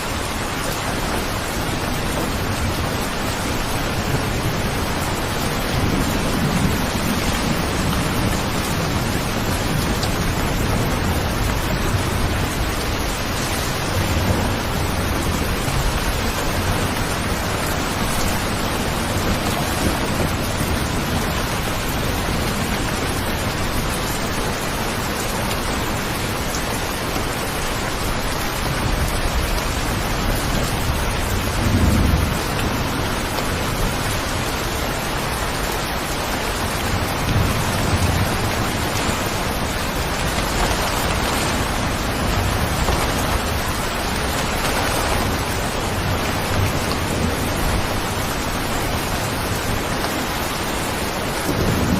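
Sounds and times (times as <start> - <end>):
heavy rain: 0.0 - 51.9
thunder rumbling: 0.0 - 51.9.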